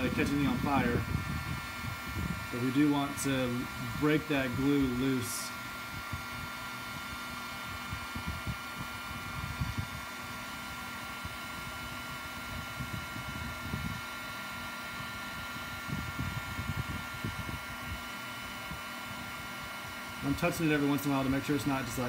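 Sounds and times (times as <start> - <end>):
heat gun fan whirring: 0.0 - 22.0.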